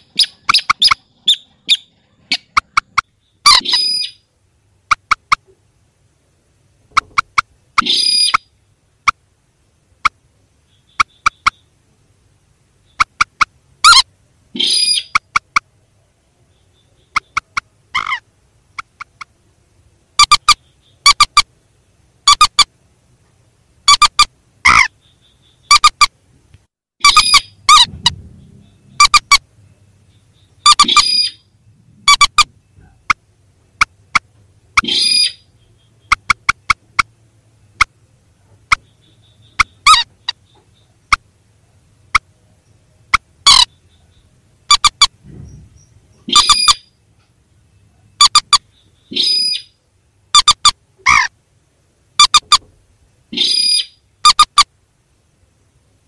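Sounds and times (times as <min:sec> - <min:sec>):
rail bird calls: 0:00.0 - 0:05.7, 0:06.8 - 0:09.2, 0:10.0 - 0:12.0, 0:12.8 - 0:19.5, 0:20.1 - 0:21.6, 0:23.9 - 0:26.2, 0:27.0 - 0:51.4, 0:52.1 - 0:54.7.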